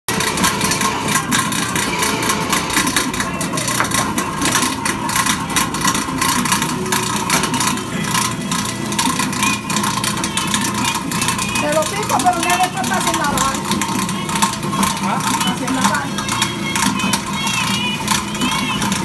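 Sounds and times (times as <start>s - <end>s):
electric grater whining: 0.1s - 19.0s.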